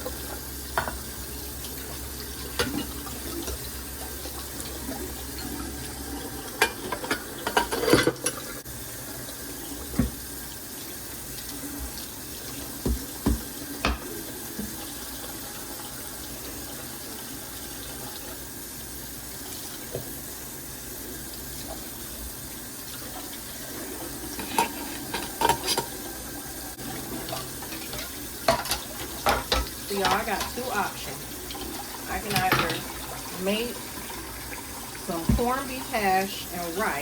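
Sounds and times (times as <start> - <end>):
tap water running into sink: 0.0 - 37.0.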